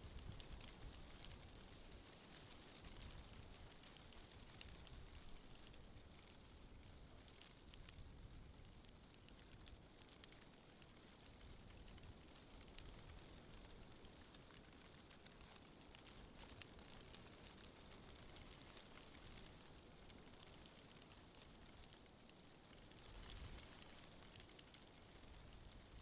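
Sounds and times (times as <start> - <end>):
tiny crackles: 0.0 - 26.0.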